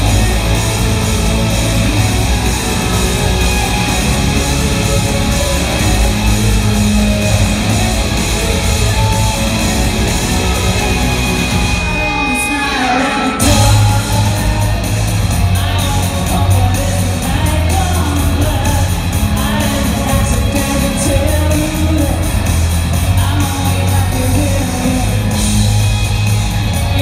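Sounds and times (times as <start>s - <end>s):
bass guitar: 0.0s - 27.0s
drums: 0.0s - 27.0s
electric guitars: 0.0s - 27.0s.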